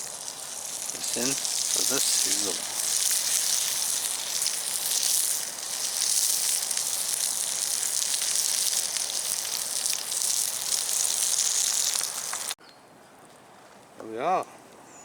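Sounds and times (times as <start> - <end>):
sausages sizzling over a fire: 0.0 - 12.6.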